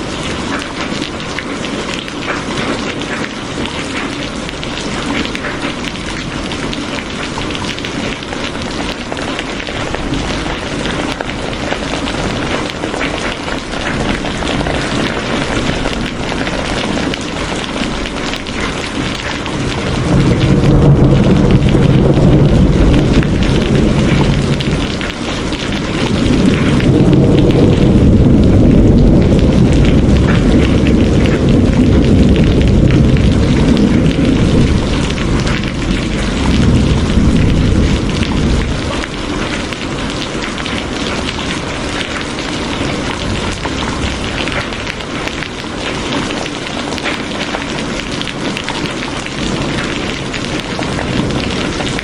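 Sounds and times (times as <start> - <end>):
steady rain: 0.0 - 52.0
rolling thunder: 3.9 - 52.0.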